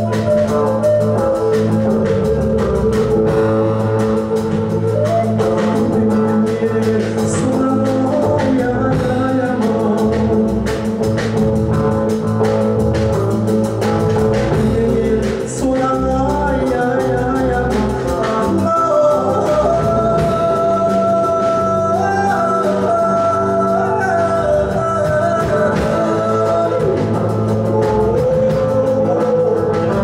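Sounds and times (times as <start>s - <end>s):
wooden flute melody: 0.0s - 9.8s, 14.7s - 30.0s
man singing: 0.0s - 11.4s, 14.4s - 30.0s
drums: 0.0s - 30.0s
electric bass guitar: 0.0s - 30.0s.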